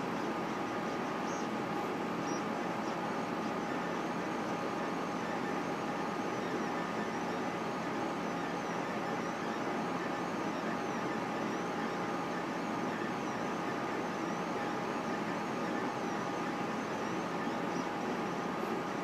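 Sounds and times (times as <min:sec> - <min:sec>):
printer whirring hum: 0:00.0 - 0:19.0.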